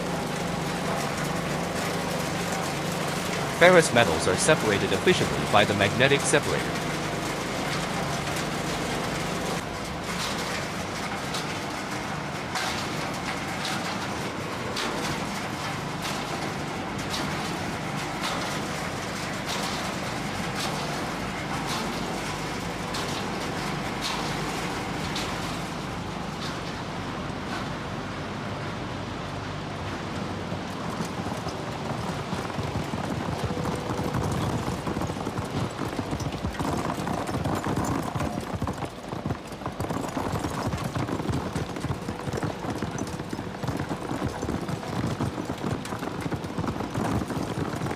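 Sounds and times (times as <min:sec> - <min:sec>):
machinery humming: 0:00.0 - 0:47.8.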